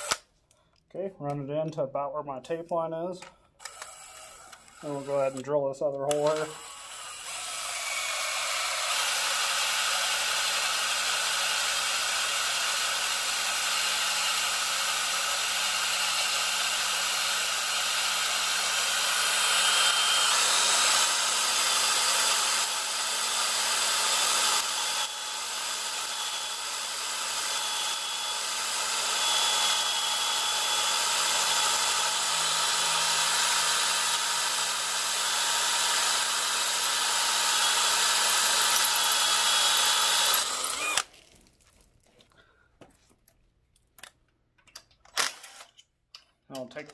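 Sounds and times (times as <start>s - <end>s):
cordless drill drilling metal: 0.0s - 0.2s, 3.6s - 41.1s, 45.2s - 45.8s.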